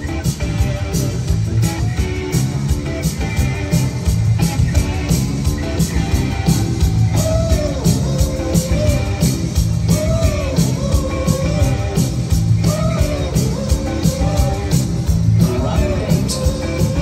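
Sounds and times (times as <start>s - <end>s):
electric guitar lead line: 0.0s - 17.0s
live rock band playing: 0.0s - 17.0s.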